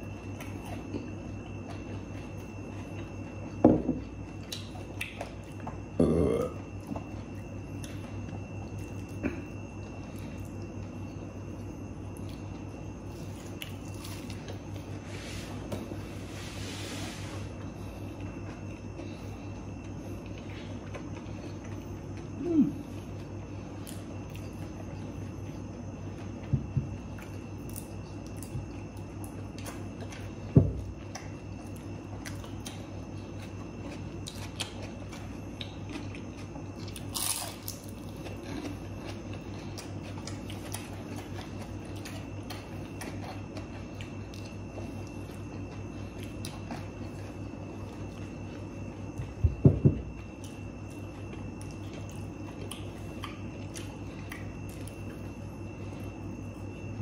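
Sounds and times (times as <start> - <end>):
chewing crispy food: 0.0 - 16.1, 17.4 - 56.9
low room hum: 0.0 - 57.0.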